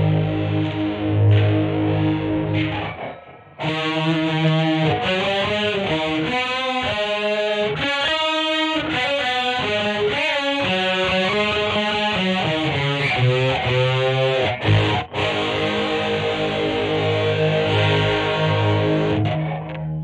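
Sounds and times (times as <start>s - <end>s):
distorted electric guitar melody: 0.0s - 20.0s.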